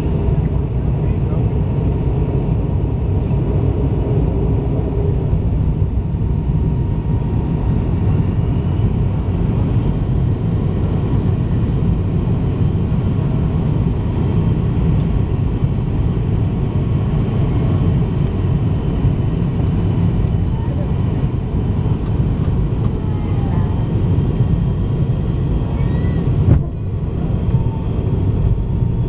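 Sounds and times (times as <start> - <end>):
jet engines and airflow roaring: 0.0 - 29.0.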